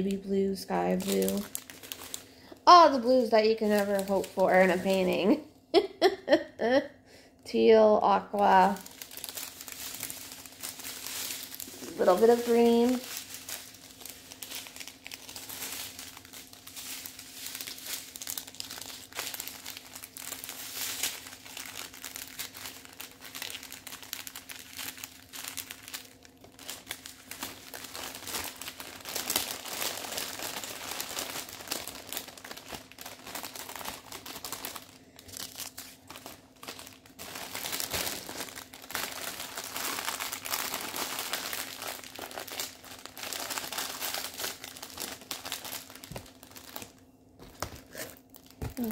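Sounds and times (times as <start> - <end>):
plastic packets crinkling: 0.0 - 5.4, 8.3 - 48.9.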